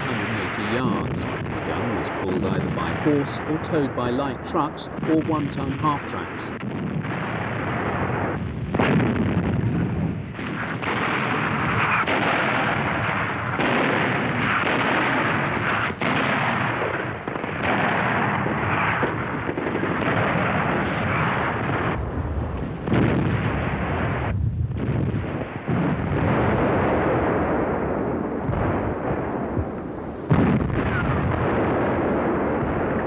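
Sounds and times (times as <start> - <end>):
artillery gun shots: 0.0 - 33.0
rumble of battle: 0.0 - 33.0.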